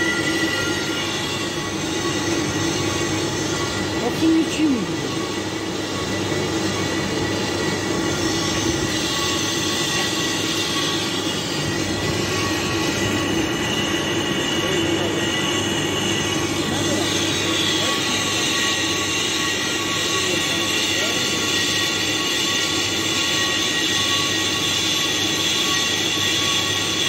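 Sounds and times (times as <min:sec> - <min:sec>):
lathe machining steel tube: 0:00.0 - 0:27.0
steady whining tones: 0:00.0 - 0:27.0.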